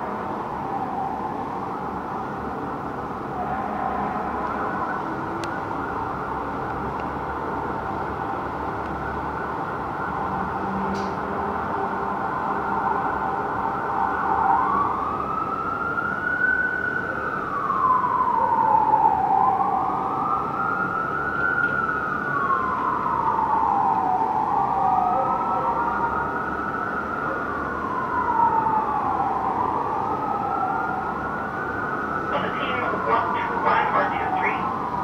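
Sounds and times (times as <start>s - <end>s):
fire engine sirens wailing: 0.0s - 35.0s.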